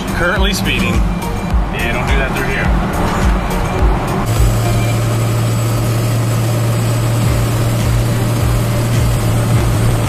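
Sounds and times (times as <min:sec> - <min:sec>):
diesel engine drone: 0:00.0 - 0:10.0
road rumble: 0:00.0 - 0:10.0.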